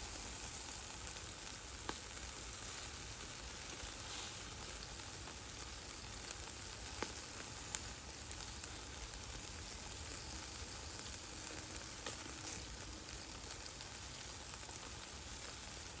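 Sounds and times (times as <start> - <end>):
food sizzling in a frying pan: 0.0 - 16.0
sharp pops of frying food: 0.0 - 16.0.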